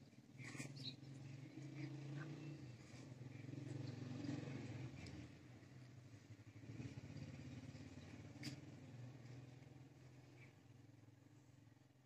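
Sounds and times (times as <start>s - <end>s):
faint low motor hum: 0.0s - 12.0s.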